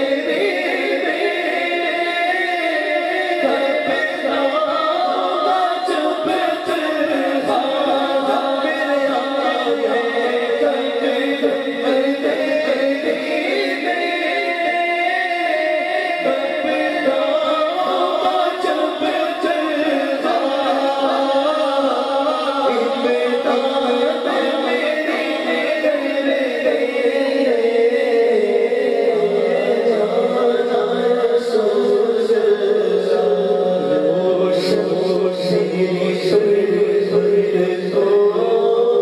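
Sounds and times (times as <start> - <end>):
man singing into a microphone: 0.0 - 39.0.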